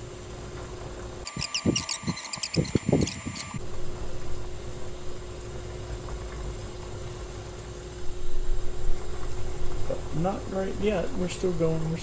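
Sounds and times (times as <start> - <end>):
water heating on stove rumble: 0.0 - 1.3, 3.6 - 12.0.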